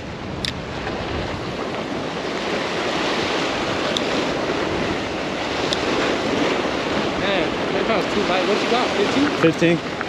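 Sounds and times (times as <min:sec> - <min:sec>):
sea waves breaking on rocks: 0:00.0 - 0:10.0.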